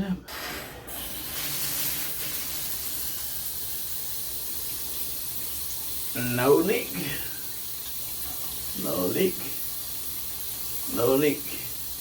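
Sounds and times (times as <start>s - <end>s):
shower head spraying water: 0.8s - 12.0s.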